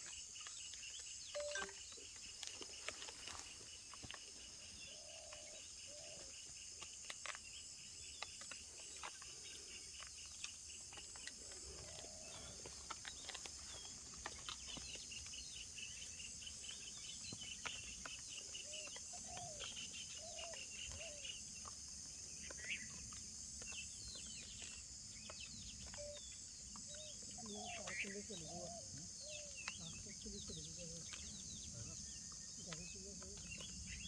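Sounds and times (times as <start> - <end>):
cricket-like chirping: 0.0 - 34.0
insect drone: 0.0 - 34.0.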